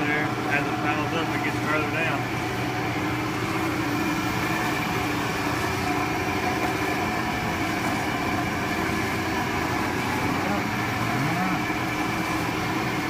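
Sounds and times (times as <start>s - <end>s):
silo unloader and conveyor hum: 0.0s - 13.0s.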